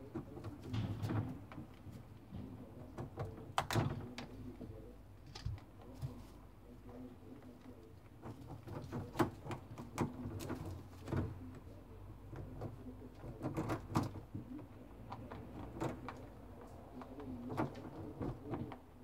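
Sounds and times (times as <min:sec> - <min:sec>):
rabbits gnawing: 0:00.0 - 0:19.0.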